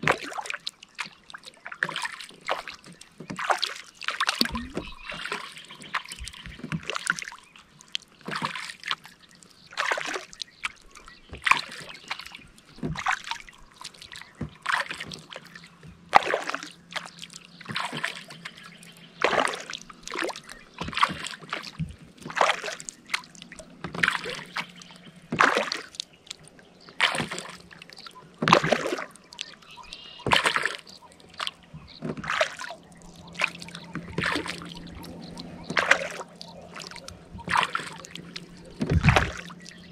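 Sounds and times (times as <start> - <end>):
kayak paddle strokes in water: 0.0 - 39.9.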